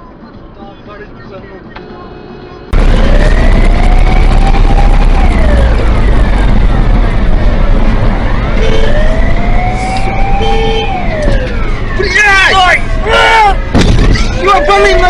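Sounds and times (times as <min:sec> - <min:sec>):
low rumble of traffic: 0:00.0 - 0:15.0
emergency siren wailing: 0:02.7 - 0:15.0.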